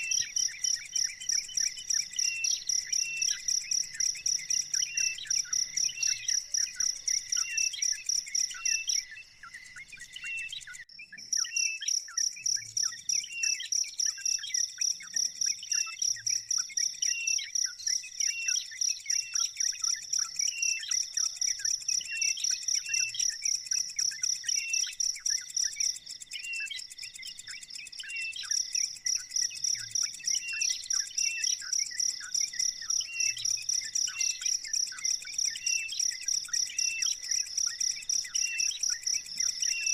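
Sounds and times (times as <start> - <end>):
bird chirps: 0.0 - 39.9
cricket-like high chirping: 0.0 - 39.9.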